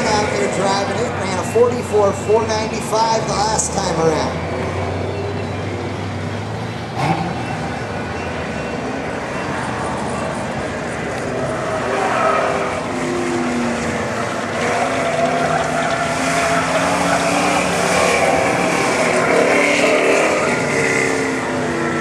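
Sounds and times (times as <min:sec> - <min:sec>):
car engine accelerating: 0:03.1 - 0:22.0.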